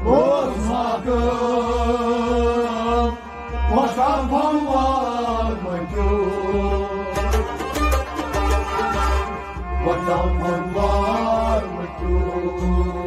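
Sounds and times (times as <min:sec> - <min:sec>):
man singing: 0:00.0 - 0:07.6, 0:09.8 - 0:13.0
harmonium: 0:00.0 - 0:13.0
steady low drum beat: 0:00.0 - 0:13.0.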